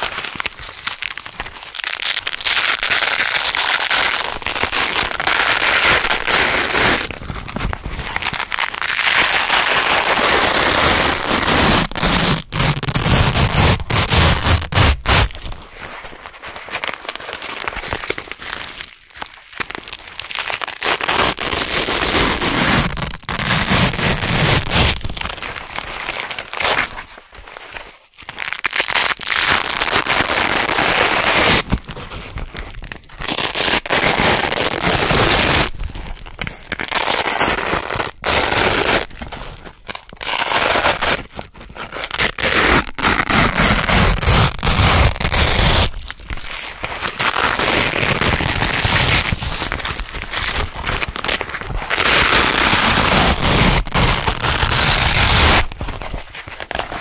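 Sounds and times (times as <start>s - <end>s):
velcro strips tearing apart: 0.0s - 57.0s.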